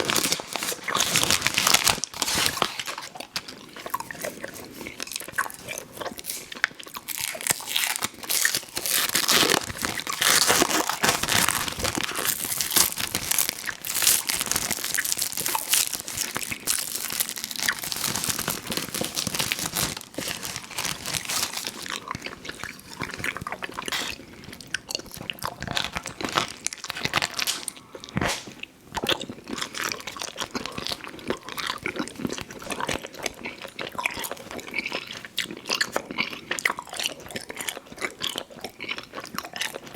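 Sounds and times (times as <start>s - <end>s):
chewing candy: 0.0s - 39.9s.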